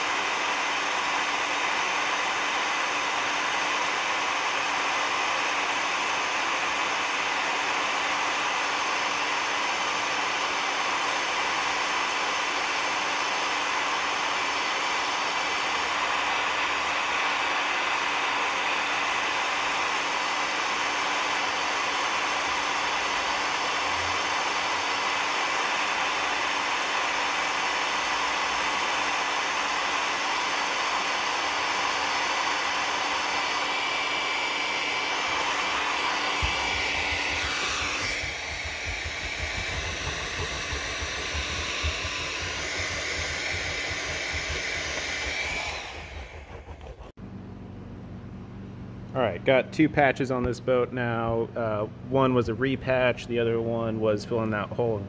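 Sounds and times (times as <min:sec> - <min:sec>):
heat gun blowing air: 0:00.0 - 0:47.2.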